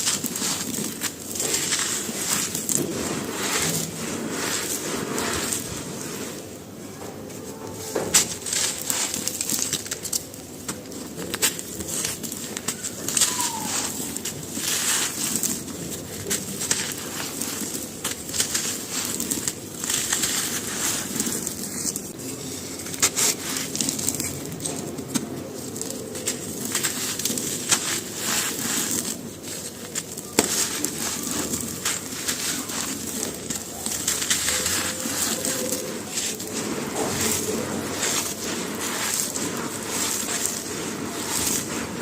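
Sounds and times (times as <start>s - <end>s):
charcoal crunching by hand: 0.0s - 42.0s.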